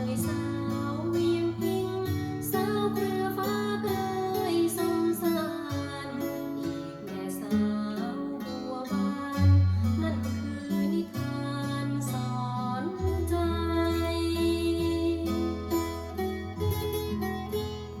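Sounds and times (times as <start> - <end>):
plucked acoustic guitar: 0.0 - 18.0.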